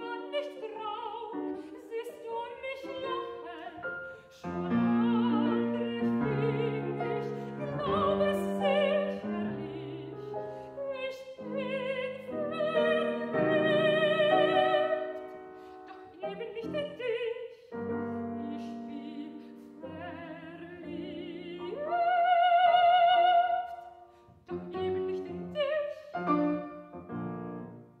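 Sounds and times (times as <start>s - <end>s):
soprano singing with vibrato: 0.0s - 27.4s
grand piano: 0.0s - 28.0s.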